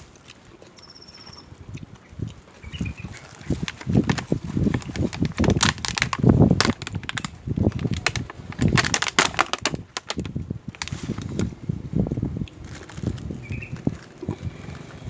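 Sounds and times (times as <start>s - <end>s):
chewing crisp fruit: 0.0s - 15.0s.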